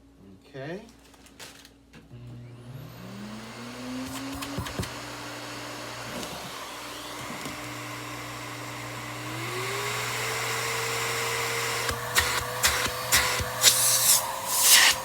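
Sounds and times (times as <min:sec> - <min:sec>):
vacuum cleaner motor whining: 0:02.1 - 0:15.0.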